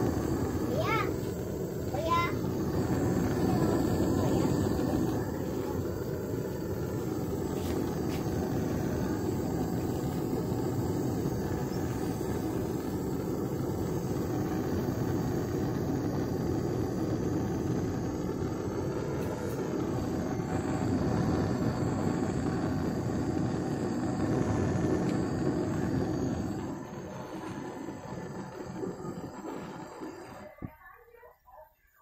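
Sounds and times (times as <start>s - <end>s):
gas torch flame rushing: 0.0s - 30.8s.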